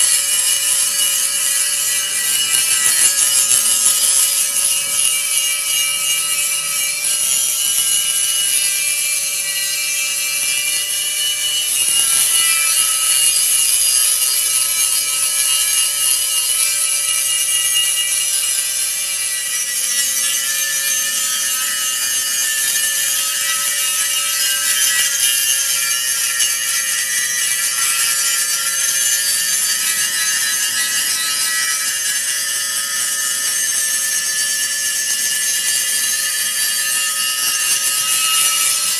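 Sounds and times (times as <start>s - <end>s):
grinder on steel: 0.0s - 38.9s.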